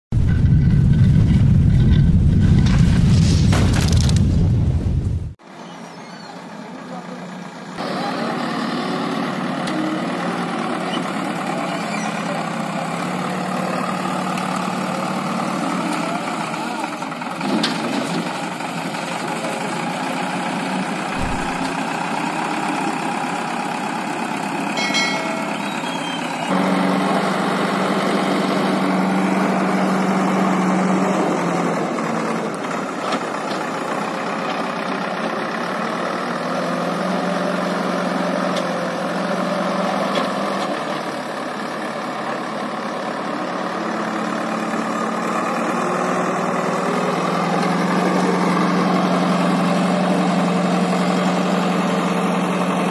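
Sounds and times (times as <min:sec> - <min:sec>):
diesel engine revving: 0:07.3 - 0:52.9.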